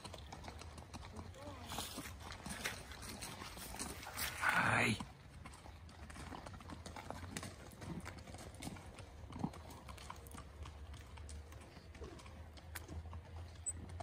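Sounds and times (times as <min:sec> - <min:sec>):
horse hooves on gravel: 0:00.0 - 0:14.0.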